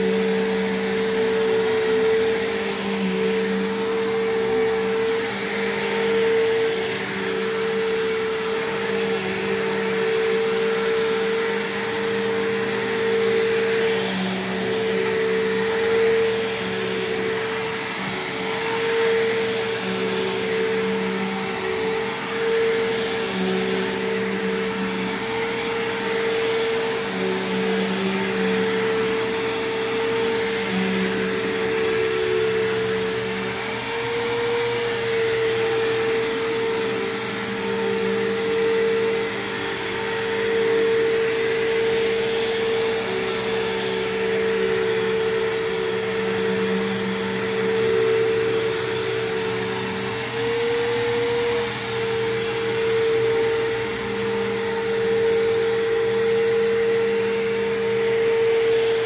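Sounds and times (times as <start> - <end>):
vacuum cleaner on carpet: 0.0 - 59.0.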